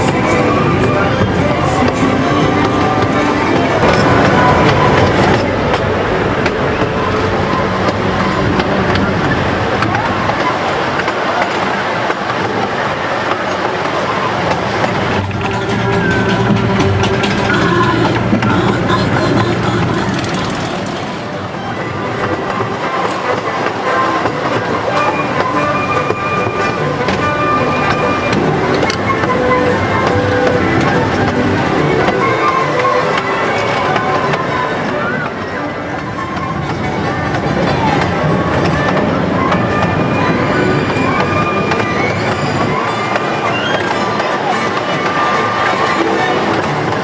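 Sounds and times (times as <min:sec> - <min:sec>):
train cars rumbling and rattling: 0:00.0 - 0:47.0
wheels clicking on rails: 0:00.0 - 0:47.0.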